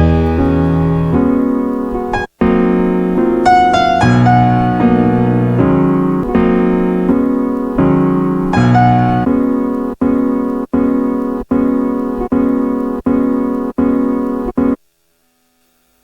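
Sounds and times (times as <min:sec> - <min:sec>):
chopped electric piano chords: 0:00.0 - 0:14.8.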